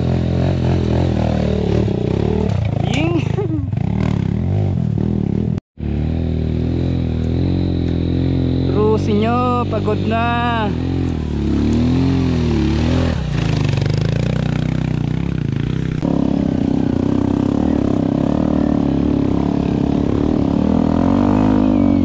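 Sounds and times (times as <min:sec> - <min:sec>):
dirt bike engine revving: 0:00.0 - 0:22.0
motorcycle engine running steadily: 0:00.0 - 0:22.0.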